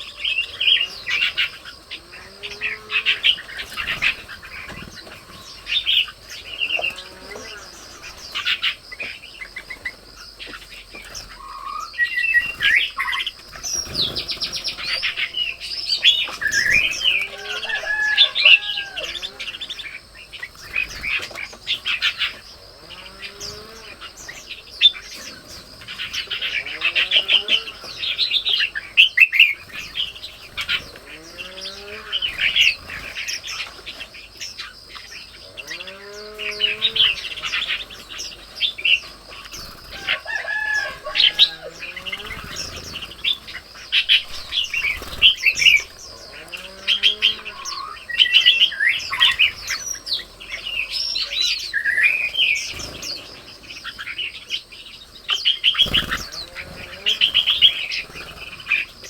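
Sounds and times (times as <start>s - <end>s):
birds chirping: 0.0s - 59.0s
drawn-out bird calls: 0.0s - 59.0s.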